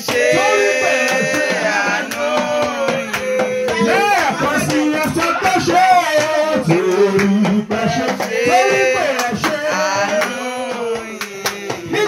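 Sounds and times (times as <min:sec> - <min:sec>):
hand drum beating: 0:00.0 - 0:12.0
men singing: 0:00.0 - 0:12.0.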